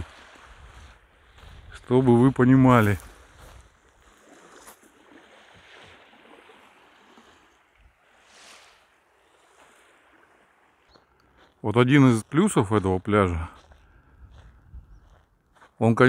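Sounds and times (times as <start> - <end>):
small waves washing onto shore: 0.0 - 13.8
light wind: 0.0 - 16.0.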